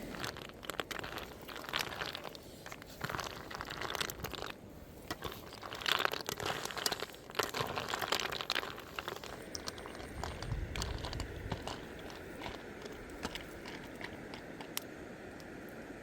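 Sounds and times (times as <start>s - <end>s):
crunching and crackling snaps: 0.0s - 15.6s.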